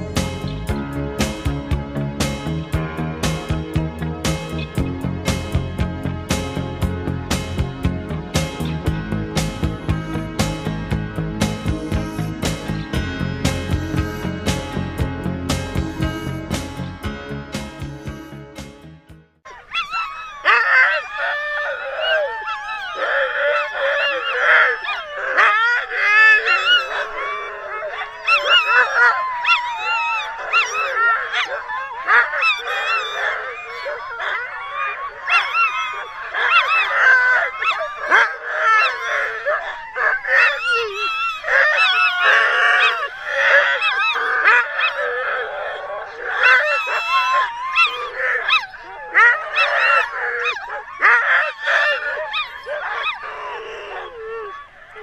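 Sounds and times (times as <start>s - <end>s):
sled dogs yelping and howling: 0.0s - 17.0s, 19.5s - 55.0s.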